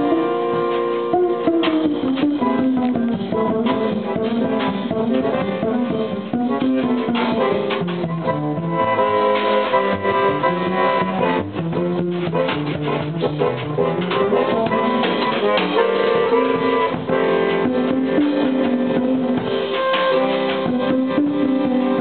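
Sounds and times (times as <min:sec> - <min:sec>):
double bass: 0:00.0 - 0:22.0
drum kit: 0:00.0 - 0:22.0
jazz band playing: 0:00.0 - 0:22.0
plucked string lead: 0:00.0 - 0:22.0.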